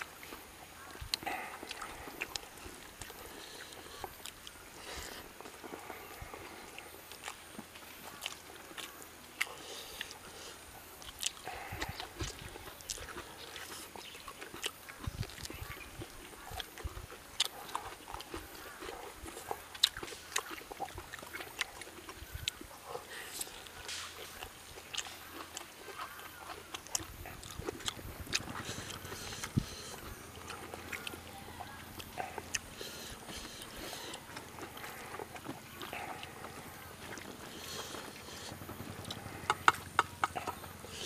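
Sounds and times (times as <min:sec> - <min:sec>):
mouth clicks: 0:00.0 - 0:41.0
person chewing food: 0:00.0 - 0:41.0.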